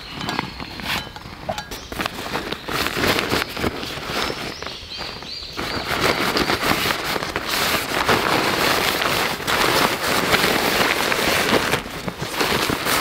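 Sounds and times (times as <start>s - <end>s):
fabric rustling and crinkling: 0.0s - 13.0s.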